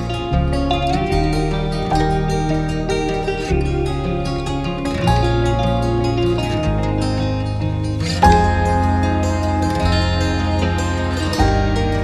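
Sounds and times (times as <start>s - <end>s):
new-age background music: 0.0s - 12.0s.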